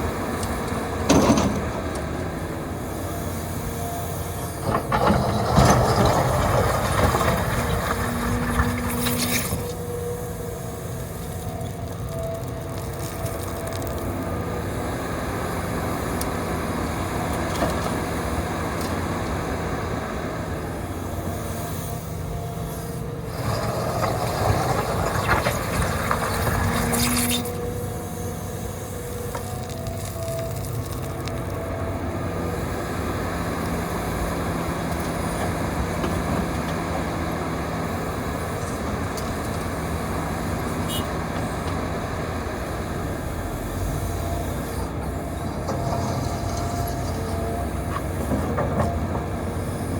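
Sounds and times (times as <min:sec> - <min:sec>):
excavator engine and hydraulics: 0:00.0 - 0:49.9.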